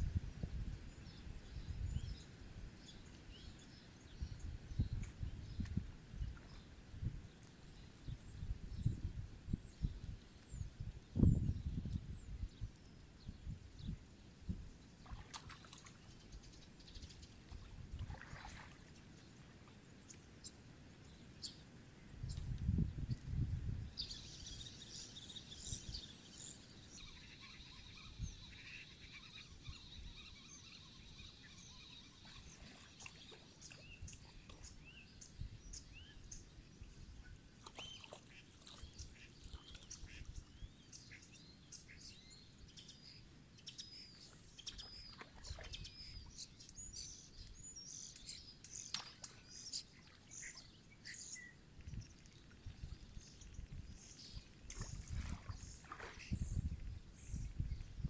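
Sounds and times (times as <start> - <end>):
small birds chirping: 0.5 - 14.0, 14.7 - 58.0.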